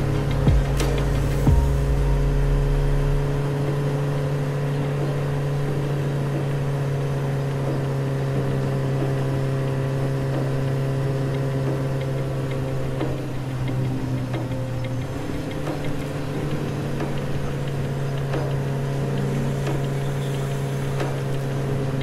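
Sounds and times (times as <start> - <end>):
scooter engine humming: 0.0 - 22.0
wind and road noise: 0.0 - 22.0.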